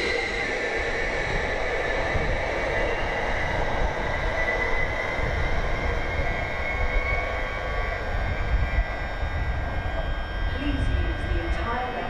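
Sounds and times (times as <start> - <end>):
high whine: 0.0 - 12.0
train low rumble: 0.0 - 12.0.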